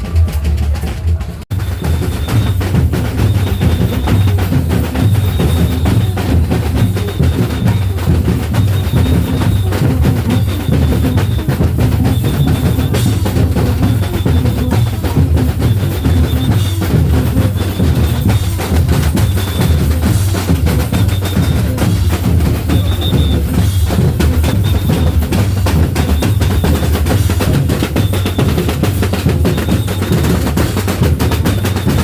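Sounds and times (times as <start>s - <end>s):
deep bass drums pulsing: 0.0s - 32.0s
light drums fast patterns: 0.0s - 32.0s.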